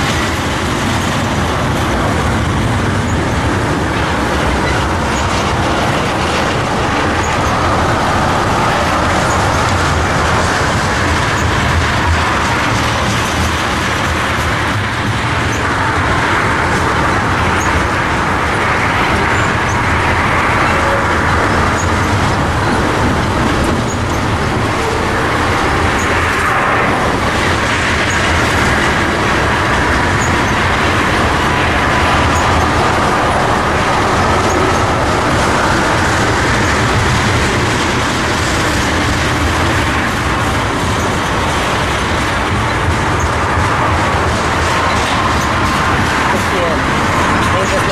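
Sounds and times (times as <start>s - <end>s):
steel wheels rumbling on rails: 0.0s - 47.9s.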